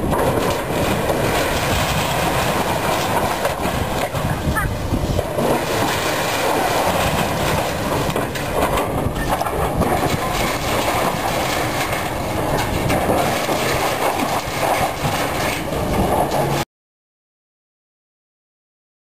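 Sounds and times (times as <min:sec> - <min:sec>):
excavator rumbling and clattering: 0:00.0 - 0:16.6.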